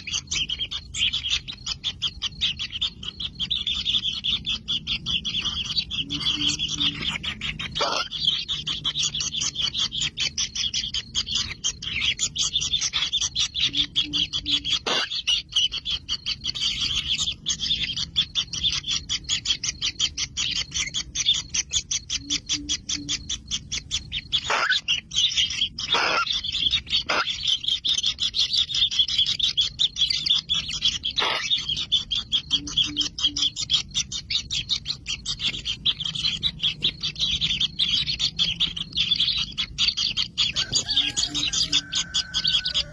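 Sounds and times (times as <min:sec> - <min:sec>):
nestlings buzzy chirping: 0:00.0 - 0:42.9.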